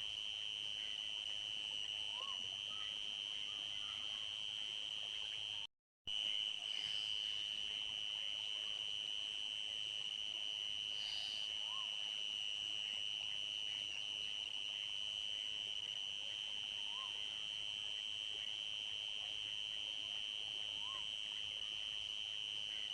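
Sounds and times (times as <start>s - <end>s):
crickets trilling: 0.1s - 22.9s.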